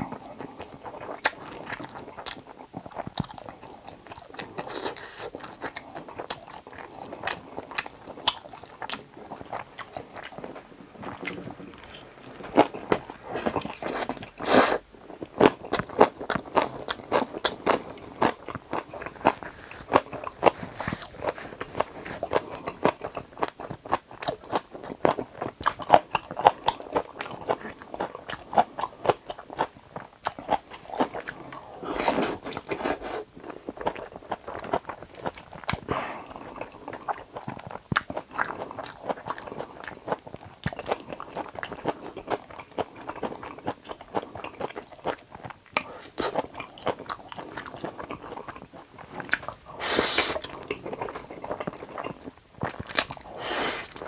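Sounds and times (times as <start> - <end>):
chewing noodles: 0.0 - 54.0.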